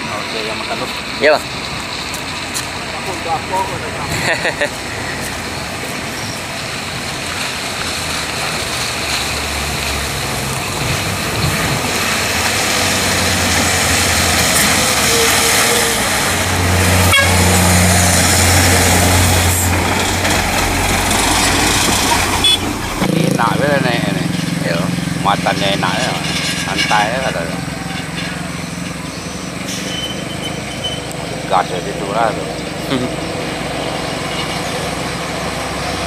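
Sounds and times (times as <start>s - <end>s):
diesel truck engine under load: 0.0s - 36.0s.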